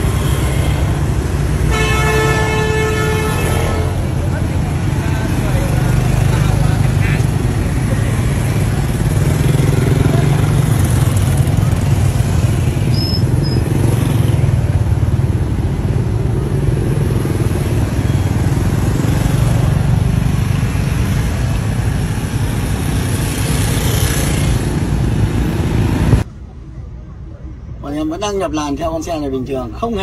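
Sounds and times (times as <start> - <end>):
motorbike engines passing: 0.0 - 27.5
road traffic: 0.0 - 30.0.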